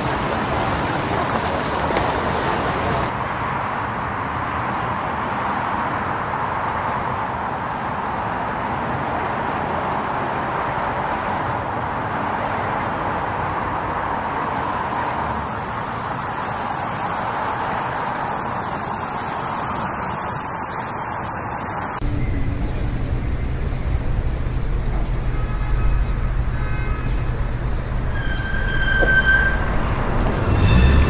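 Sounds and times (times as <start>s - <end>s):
traffic din: 0.0s - 31.0s.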